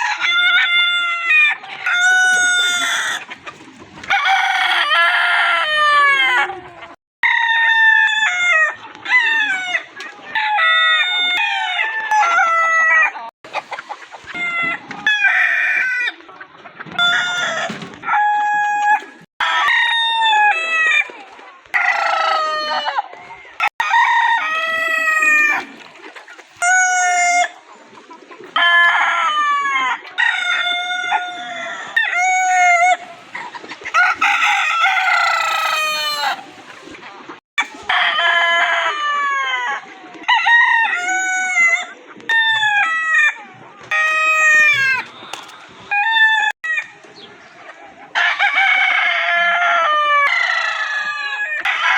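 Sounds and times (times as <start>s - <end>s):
roosters crowing: 0.0s - 3.3s, 4.0s - 13.3s, 16.9s - 25.8s, 26.6s - 27.6s, 28.6s - 36.5s, 37.6s - 47.3s, 48.1s - 51.9s.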